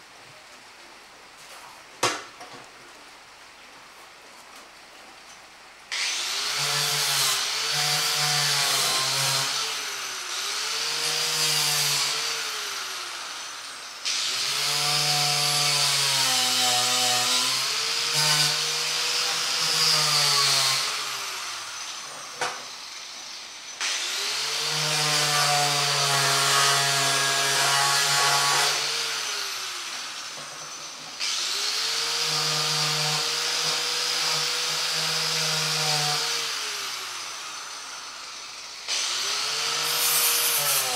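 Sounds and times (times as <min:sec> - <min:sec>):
handheld power tool on metal: 0:05.9 - 0:40.9.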